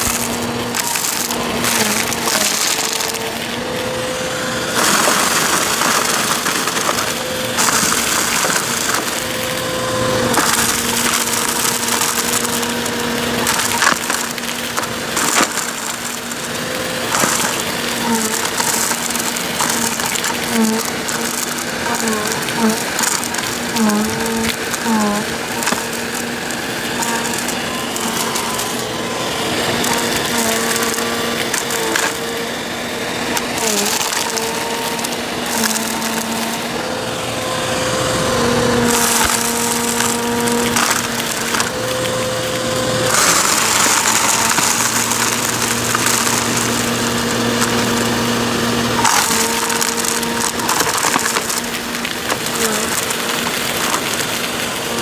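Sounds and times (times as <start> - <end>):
debris crackling in vacuum: 0.0 - 55.0
vacuum cleaner motor whine: 0.0 - 55.0.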